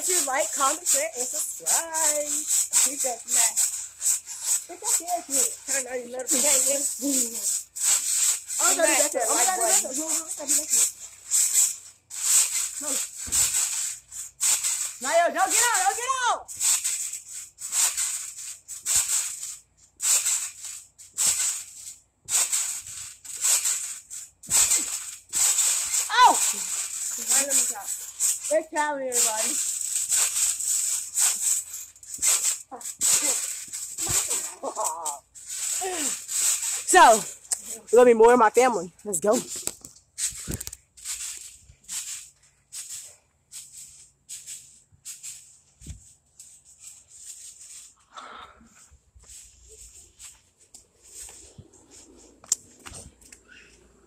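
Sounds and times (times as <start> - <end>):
trampoline springs creaking: 0.0 - 54.0.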